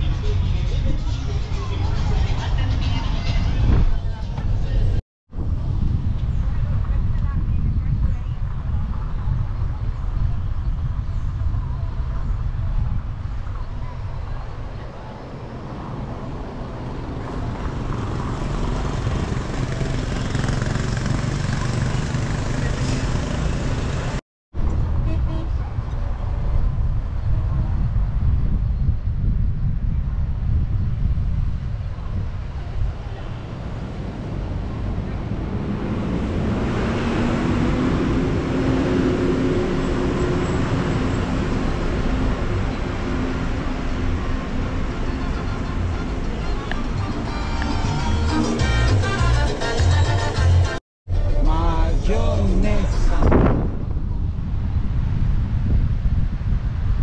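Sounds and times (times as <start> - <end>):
car engine and road noise: 0.0 - 57.0
moving vehicle rumble: 0.0 - 57.0.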